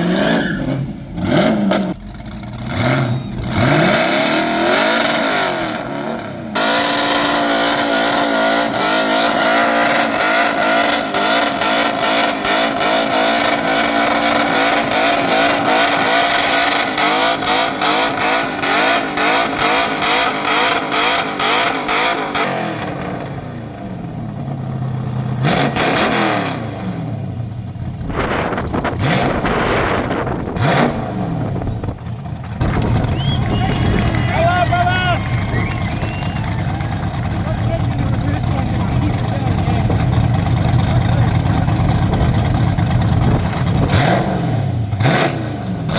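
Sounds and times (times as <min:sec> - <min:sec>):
car engine revving high: 0:00.0 - 0:45.9.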